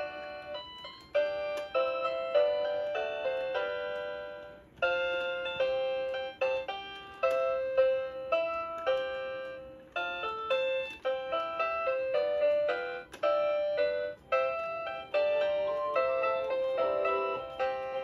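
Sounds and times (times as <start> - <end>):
toy carousel melody: 0.0 - 18.0.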